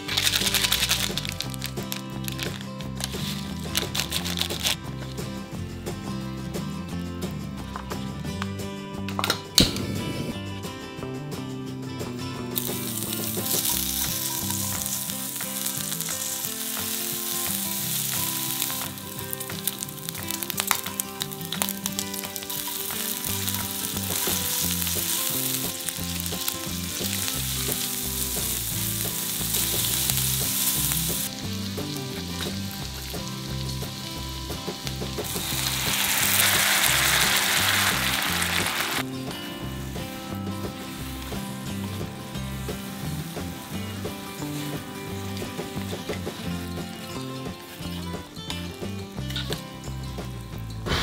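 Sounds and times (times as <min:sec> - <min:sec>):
food sizzling in hot oil: 0:00.0 - 0:05.2, 0:12.6 - 0:51.0.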